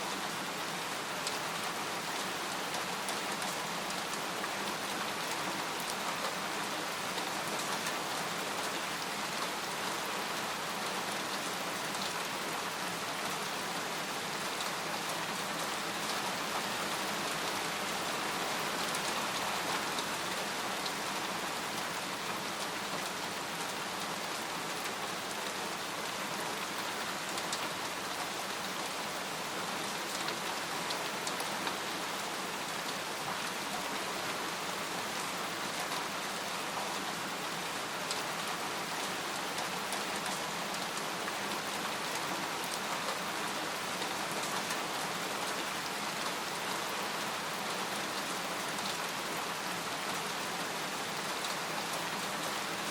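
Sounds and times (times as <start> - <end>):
rain falling on a tent: 0.0 - 52.9.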